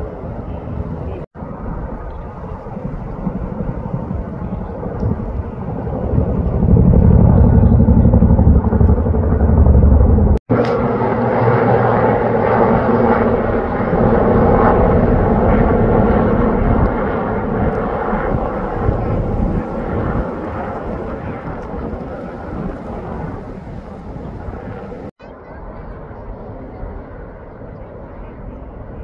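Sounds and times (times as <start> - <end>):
tandem-rotor helicopter beat: 0.0 - 25.1
helicopter rotor and turbine: 0.0 - 29.0.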